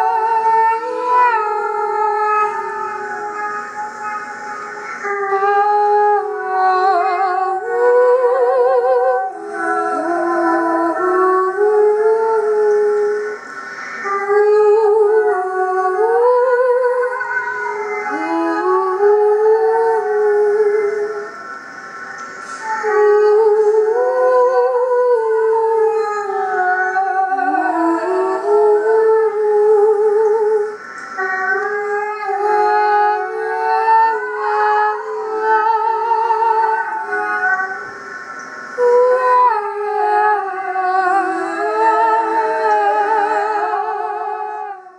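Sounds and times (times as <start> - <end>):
person singing wordless high notes: 0.0 - 44.9.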